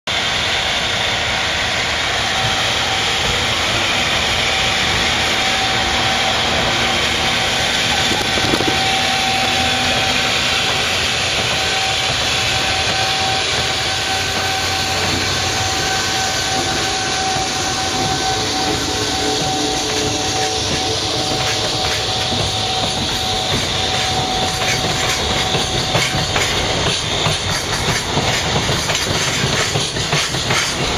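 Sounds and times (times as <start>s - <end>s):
steady whine: 0.1s - 28.2s
freight train rumble and hiss: 0.1s - 30.9s.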